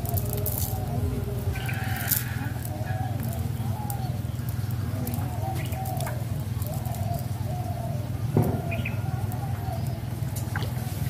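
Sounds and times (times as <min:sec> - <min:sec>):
dove cooing: 0:00.0 - 0:11.0
steady low hum: 0:00.0 - 0:11.0.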